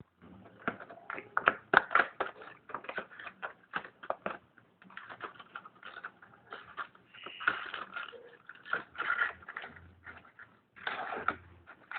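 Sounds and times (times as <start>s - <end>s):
plastic packaging clicks and crinkles: 0.1s - 11.9s.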